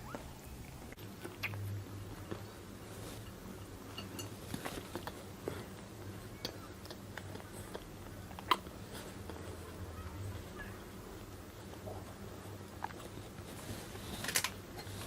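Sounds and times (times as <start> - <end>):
person chewing food: 0.0 - 9.8, 11.5 - 15.0
faint low hum: 0.0 - 15.0.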